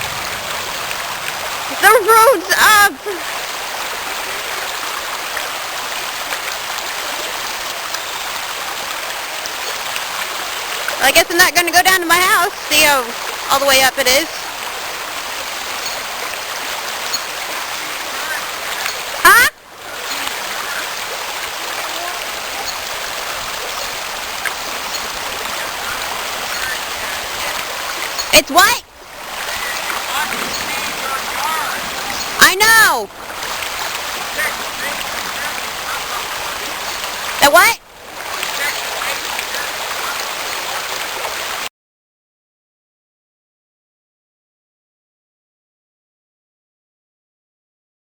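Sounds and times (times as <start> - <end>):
floodwater rushing: 0.0 - 41.7.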